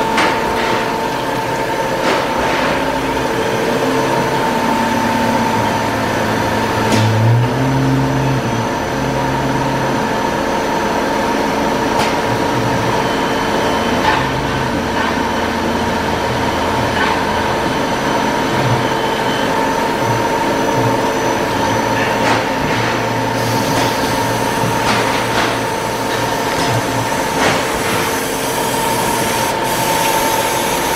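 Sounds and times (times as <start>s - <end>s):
machine hum with whine: 0.0s - 30.9s.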